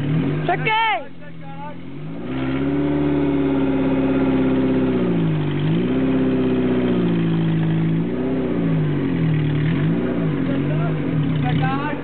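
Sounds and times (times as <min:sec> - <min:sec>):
engine revving hard: 0:00.0 - 0:01.0, 0:01.7 - 0:12.0.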